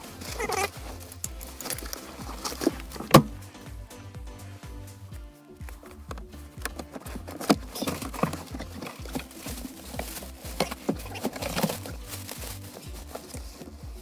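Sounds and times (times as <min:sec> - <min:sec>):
background music with pulsing bass: 0:00.0 - 0:14.0
clicks knocks and clatter of handling: 0:00.2 - 0:03.4, 0:05.6 - 0:13.7.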